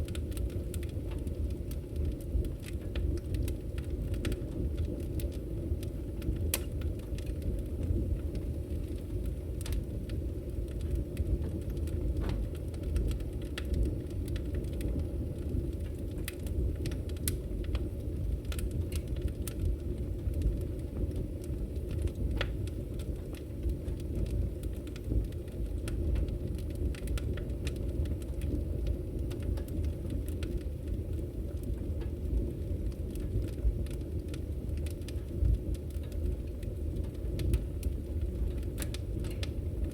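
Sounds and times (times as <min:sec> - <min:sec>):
burning logs crackling and popping: 0:00.0 - 0:39.9
low rumble of flames: 0:00.0 - 0:39.9.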